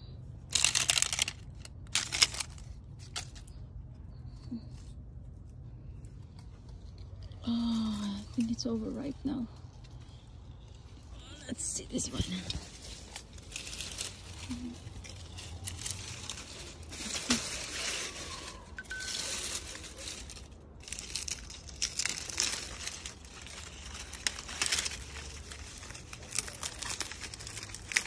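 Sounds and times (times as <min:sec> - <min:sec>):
dry leaves rustling and crackling: 0:00.4 - 0:04.9, 0:05.5 - 0:28.0.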